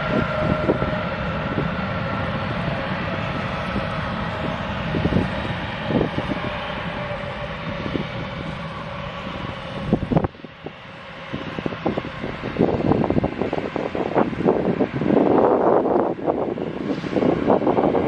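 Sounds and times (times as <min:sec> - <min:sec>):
jet engine rushing: 0:00.0 - 0:18.0
wind buffeting microphone: 0:00.0 - 0:18.0.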